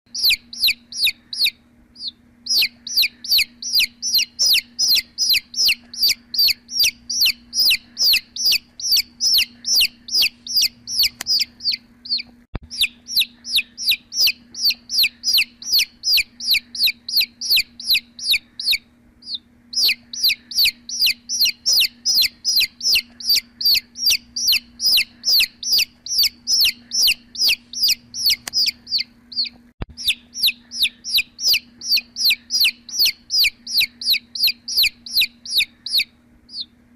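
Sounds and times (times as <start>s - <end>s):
chicks peeping: 0.1s - 36.7s
steady low hum: 0.1s - 36.9s.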